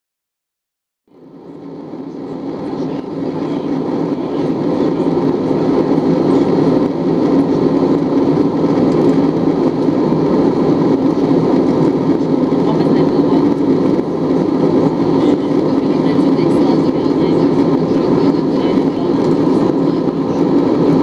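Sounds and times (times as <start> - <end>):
jet airliner cabin noise: 1.1 - 21.0.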